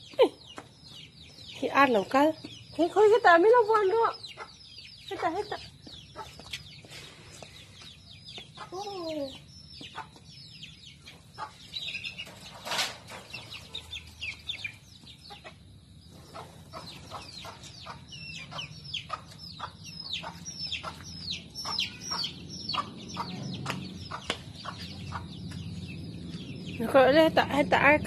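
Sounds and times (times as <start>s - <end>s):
chicks peeping: 0.0s - 27.8s.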